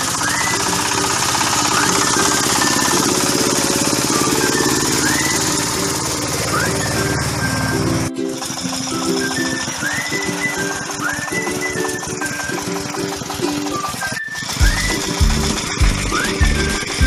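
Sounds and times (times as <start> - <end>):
diesel engine knocking: 0.0 - 17.0
wheel churning through mud: 0.0 - 17.0.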